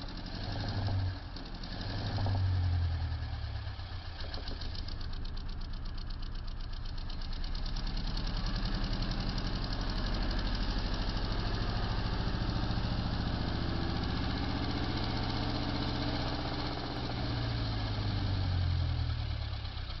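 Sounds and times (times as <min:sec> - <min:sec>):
motorcycle engine idling: 0:03.0 - 0:20.0.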